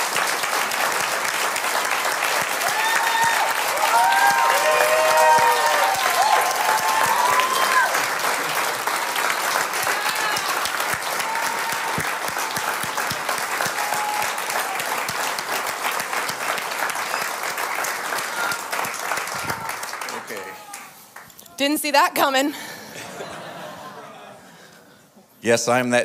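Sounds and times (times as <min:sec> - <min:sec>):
crowd applauding: 0:00.0 - 0:21.7.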